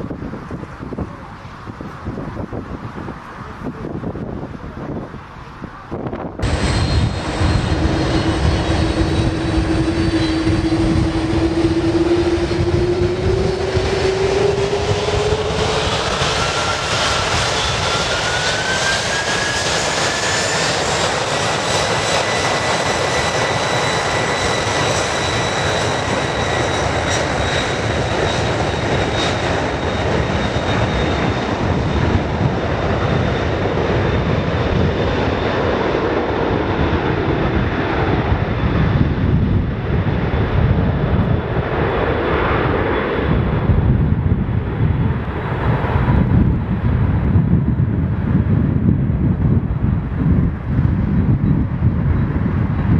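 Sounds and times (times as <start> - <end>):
jet engines running loud: 0.0 - 52.9
rising engine whine: 5.9 - 49.0.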